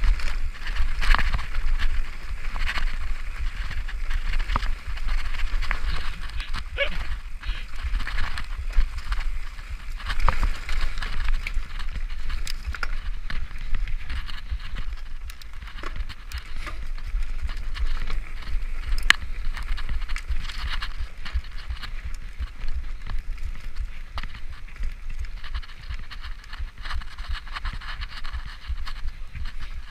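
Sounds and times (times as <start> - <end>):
bike clicks and rattles: 0.0 - 29.9
constant low rumble: 0.0 - 29.9
tyres rolling over dirt: 0.0 - 29.9.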